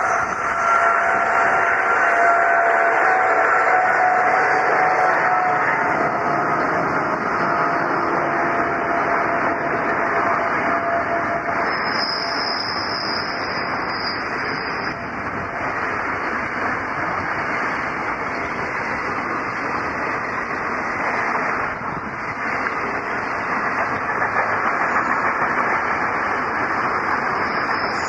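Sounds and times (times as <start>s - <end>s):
freight train wheels on track: 0.0s - 28.0s.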